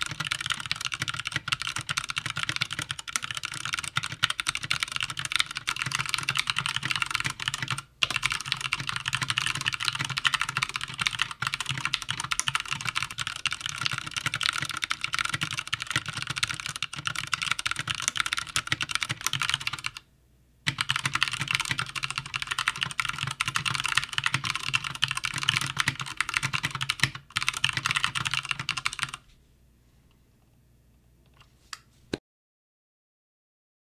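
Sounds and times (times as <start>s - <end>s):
fast typing on mechanical keyboard: 0.0s - 20.0s, 20.7s - 29.2s.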